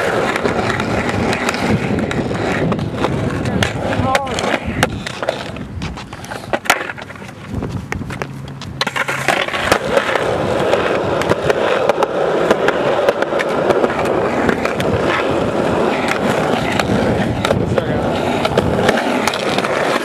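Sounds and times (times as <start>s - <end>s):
skateboard wheels rolling on concrete: 0.0s - 20.0s.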